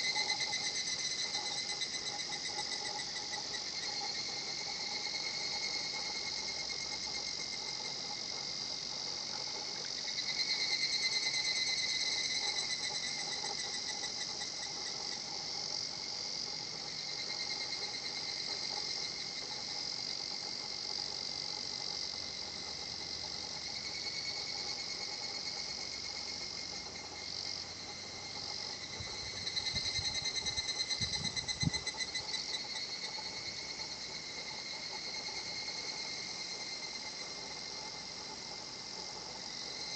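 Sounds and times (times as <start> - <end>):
cicadas calling in chorus: 0.0 - 39.9.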